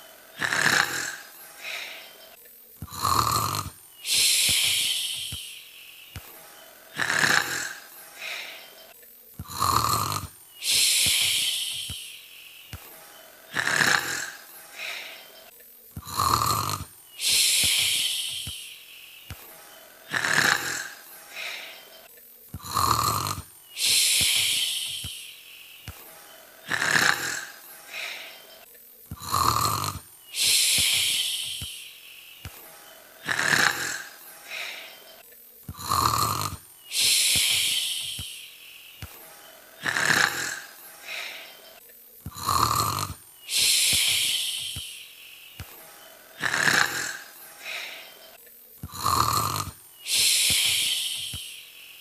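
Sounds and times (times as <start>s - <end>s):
person imitating snoring: 0.2s - 2.2s, 2.8s - 5.7s, 6.8s - 12.8s, 13.4s - 18.8s, 19.9s - 21.9s, 22.5s - 25.4s, 26.4s - 32.0s, 33.0s - 38.5s, 39.6s - 45.1s, 46.2s - 48.2s, 48.8s - 51.7s
hissing out-breaths: 0.3s - 2.2s, 2.8s - 6.2s, 6.8s - 8.8s, 9.4s - 22.0s, 22.6s - 26.0s, 26.6s - 28.6s, 29.2s - 39.2s, 39.8s - 48.3s, 48.9s - 52.0s.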